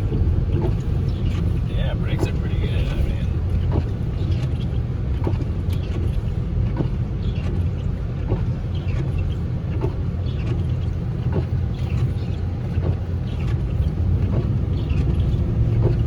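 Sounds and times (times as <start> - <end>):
car driving through snow: 0.0 - 16.0.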